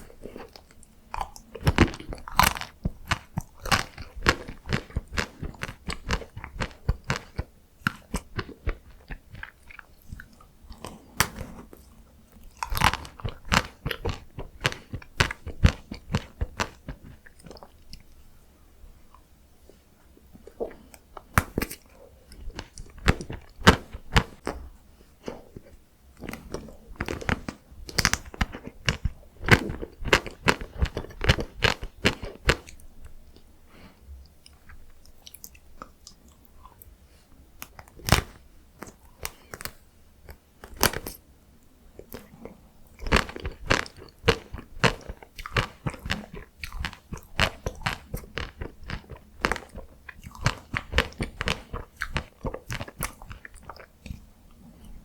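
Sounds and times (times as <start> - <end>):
crunching and chewing ice cream: 0.0 - 18.2, 19.1 - 24.6, 25.2 - 41.3, 41.9 - 55.0.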